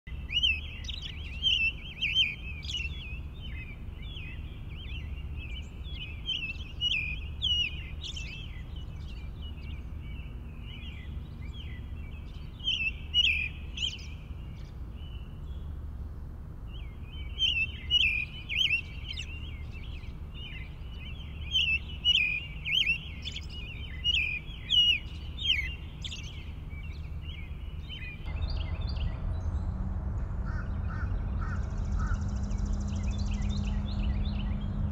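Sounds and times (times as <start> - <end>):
small birds chirping: 0.1 - 29.8, 30.4 - 34.9
steady low rumble: 0.1 - 34.9.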